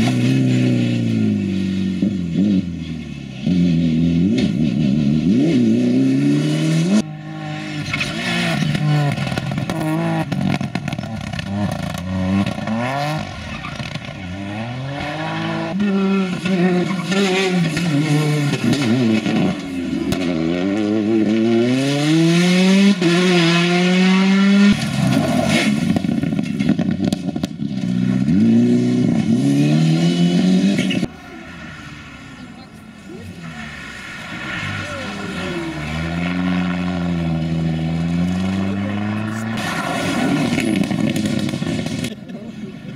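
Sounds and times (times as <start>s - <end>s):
engines revving through gears: 0.0s - 42.2s
rally cars driving past: 0.0s - 42.9s.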